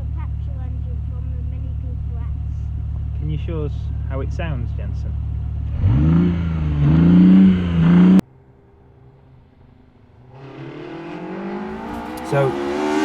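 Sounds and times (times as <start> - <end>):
car engine revving: 0.0 - 8.2, 9.6 - 13.0.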